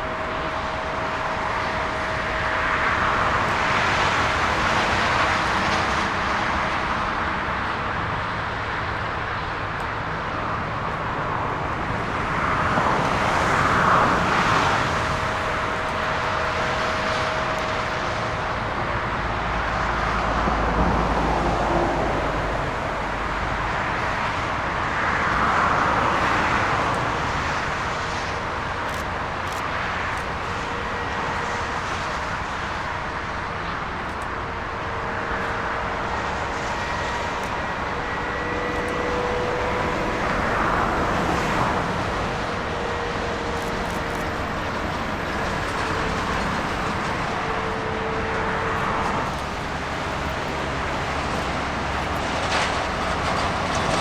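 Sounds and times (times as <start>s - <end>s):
aircraft engines passing: 0.0s - 54.0s.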